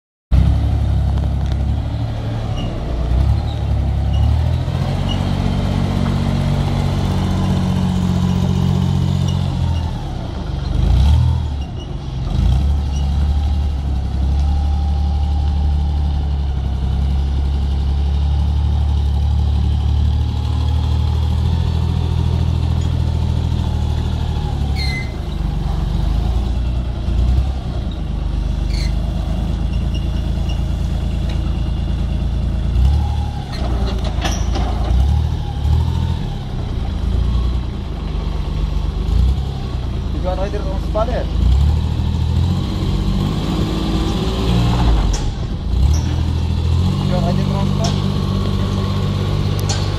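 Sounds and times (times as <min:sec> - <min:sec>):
forklift engine running: 0:00.3 - 0:49.9.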